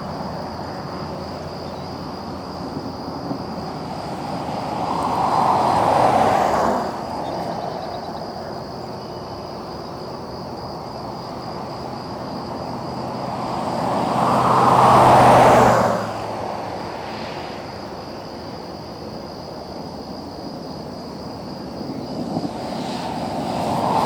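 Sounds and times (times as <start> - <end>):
cars passing by: 0.0 - 24.0.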